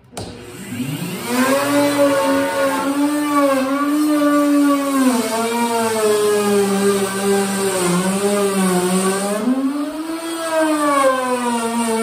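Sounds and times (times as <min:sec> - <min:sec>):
router motor whining: 0:00.1 - 0:12.0
router bit cutting plywood: 0:00.2 - 0:12.0.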